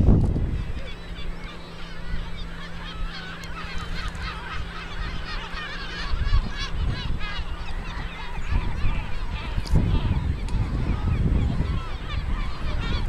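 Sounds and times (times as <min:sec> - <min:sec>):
seabird colony calling: 0:00.0 - 0:13.0
steady low hum: 0:00.0 - 0:13.0
wind rumble on microphone: 0:00.0 - 0:13.0.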